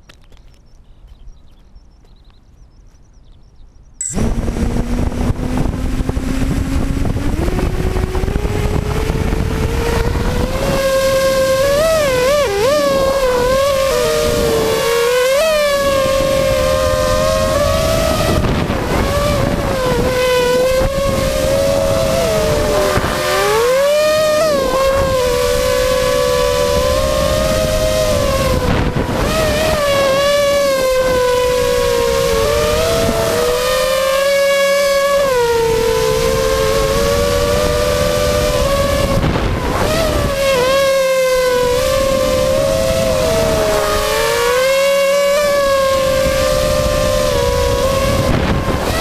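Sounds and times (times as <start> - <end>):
wind noise on microphone: 0.0 - 49.0
engine whining at high speed: 4.0 - 49.0
motor droning: 4.0 - 49.0
rush of noise: 4.0 - 49.0.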